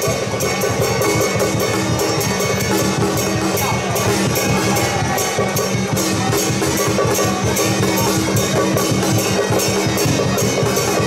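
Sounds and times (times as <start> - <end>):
cymbals: 0.0 - 11.0
drums: 0.0 - 11.0
hand gongs: 0.0 - 11.0.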